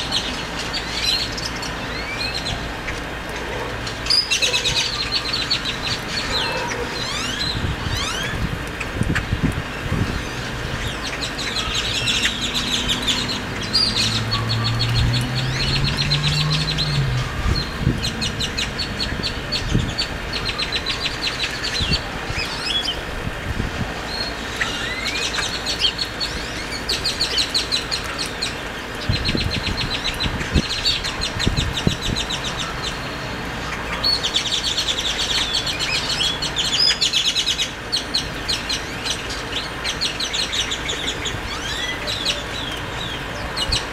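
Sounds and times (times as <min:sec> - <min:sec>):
birds rattling chatter: 0:00.0 - 0:43.9.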